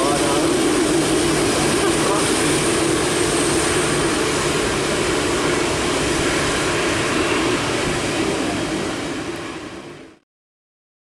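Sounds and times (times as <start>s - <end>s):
jet engines running: 0.0s - 10.2s.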